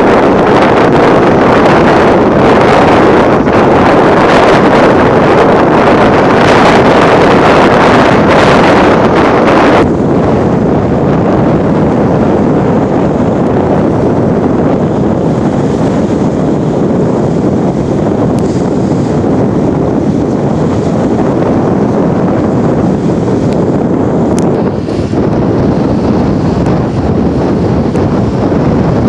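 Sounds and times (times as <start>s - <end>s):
small waves washing on shore: 0.0s - 29.0s
wind buffeting microphone: 0.0s - 29.0s.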